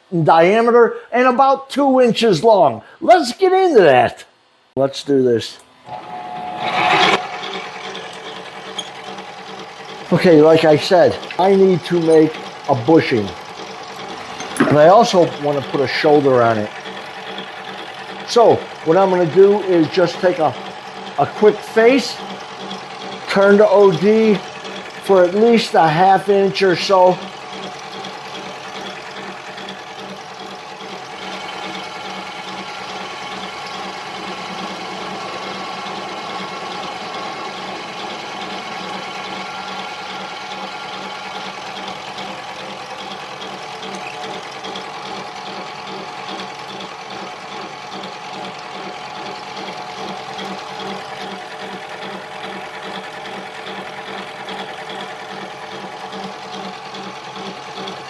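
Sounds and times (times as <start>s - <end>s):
lathe whining while cutting metal: 5.8s - 58.0s.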